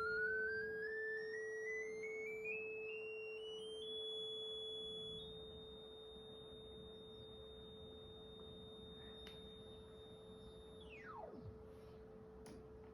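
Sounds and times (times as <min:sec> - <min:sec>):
high electronic sine tone: 0:00.0 - 0:12.0
low electronic sine tone: 0:00.0 - 0:12.7.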